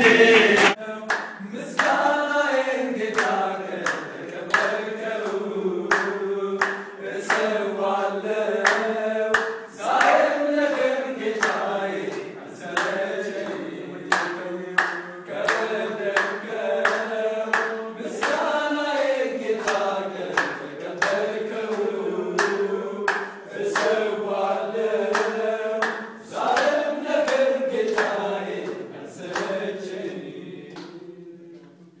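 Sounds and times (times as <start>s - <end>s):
hands clapping in time: 0.0s - 2.1s, 3.1s - 8.0s, 8.6s - 29.6s, 30.7s - 31.0s
men singing together: 0.0s - 31.8s.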